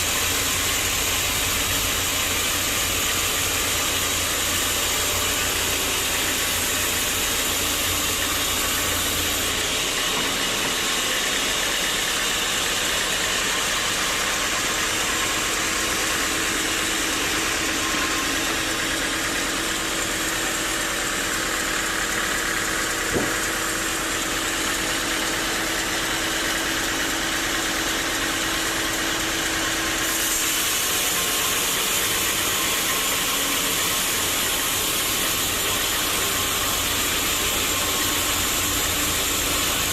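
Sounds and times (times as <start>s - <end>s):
sawmill saw cutting a log: 0.0s - 39.9s.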